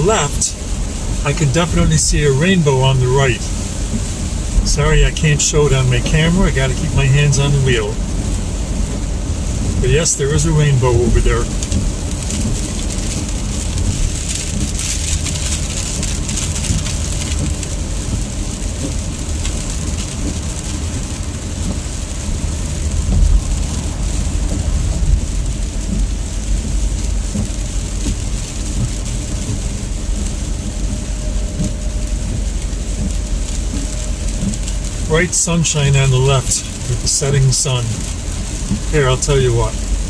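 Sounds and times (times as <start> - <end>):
rain hiss on wet road: 0.0 - 40.0
road and engine rumble: 0.0 - 40.0.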